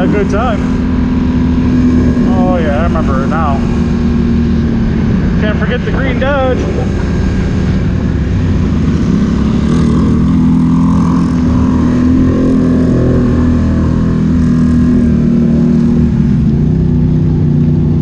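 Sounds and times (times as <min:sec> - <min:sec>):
atv engine cruising: 0:00.0 - 0:18.0
low rumble of ride: 0:00.0 - 0:18.0.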